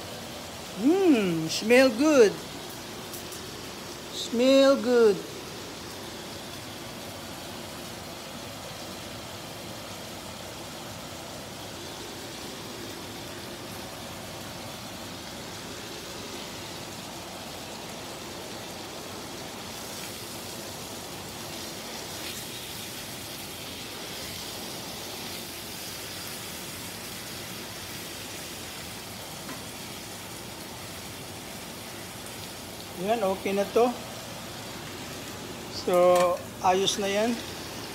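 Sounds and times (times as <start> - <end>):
steaks sizzling in a frying pan: 0.0 - 37.9
sauce bubbling: 5.2 - 37.9.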